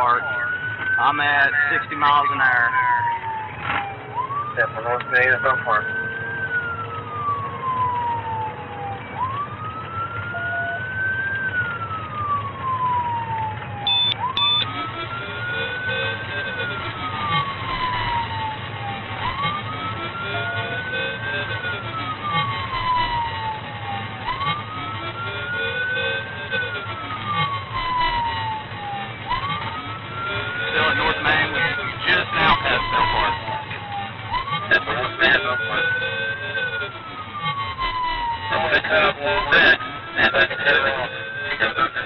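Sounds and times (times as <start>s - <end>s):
car engine and road noise: 0.0s - 42.0s
faint lower wailing siren: 0.0s - 42.0s
police siren wailing: 0.0s - 42.0s.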